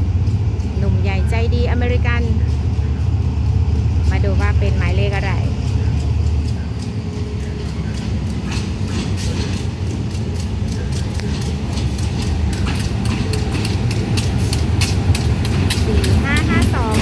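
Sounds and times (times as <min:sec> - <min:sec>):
train rumbling: 0:00.0 - 0:17.0
train wheels clicking and clacking: 0:00.0 - 0:17.0.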